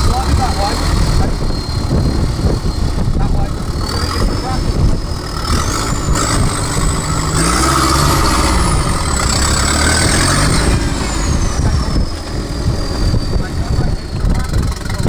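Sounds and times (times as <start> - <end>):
engine revving under load: 0.0 - 15.0
high whine: 0.0 - 15.0.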